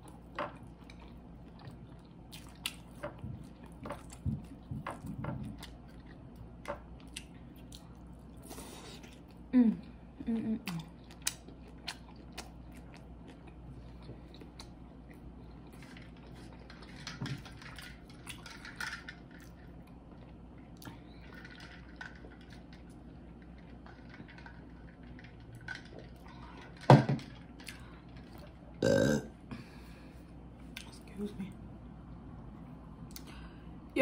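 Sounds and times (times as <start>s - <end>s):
chewing and mouth noises: 0.0s - 28.6s.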